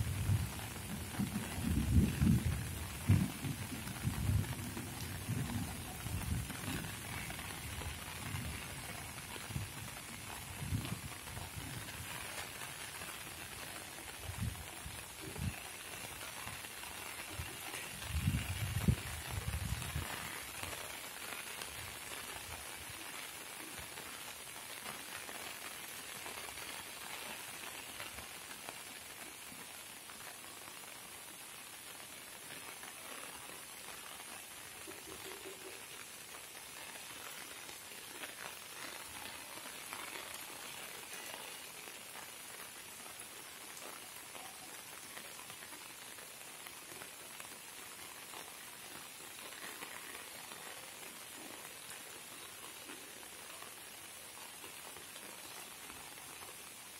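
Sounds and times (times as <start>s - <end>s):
rain falling on trees and rock: 0.0s - 56.9s.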